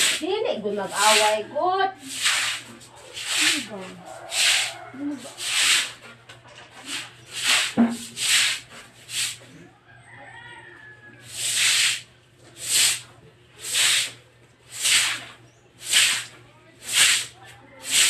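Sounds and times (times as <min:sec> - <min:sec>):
broom sweeping water on concrete: 0:00.0 - 0:09.6, 0:11.2 - 0:18.0.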